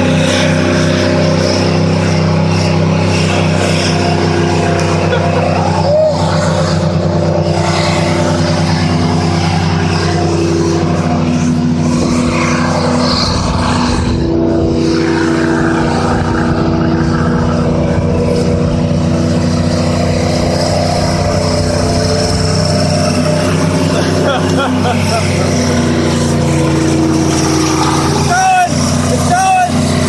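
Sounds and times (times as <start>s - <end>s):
truck engines at high revs: 0.0s - 30.0s.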